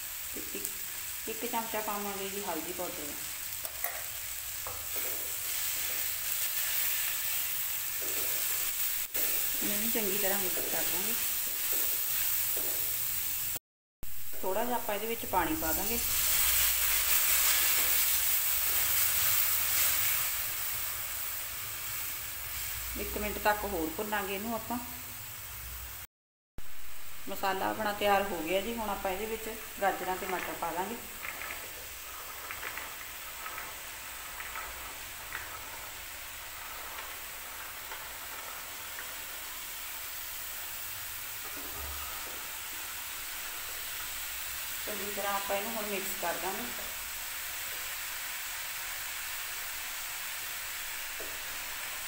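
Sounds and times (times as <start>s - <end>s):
masala sizzling in oil: 0.0s - 52.0s.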